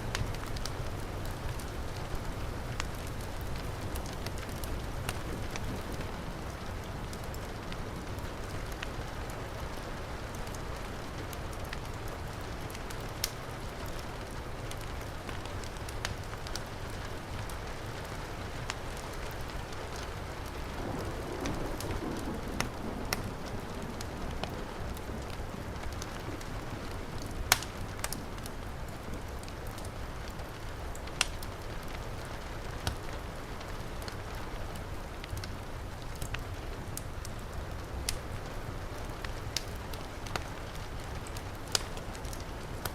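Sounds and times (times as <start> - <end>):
heavy rain falling: 0.0 - 42.9
wood fire crackling and popping: 0.1 - 42.9.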